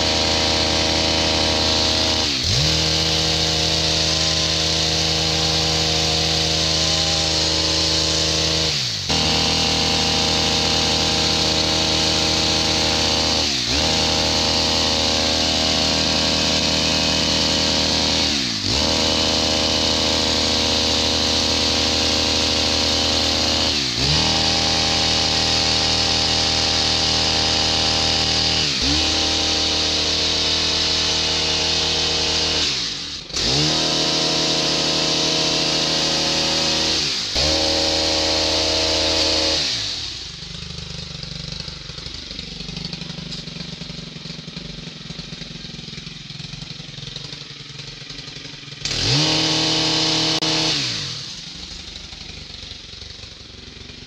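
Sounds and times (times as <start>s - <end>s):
hedge trimmer engine revving: 0.0s - 54.0s.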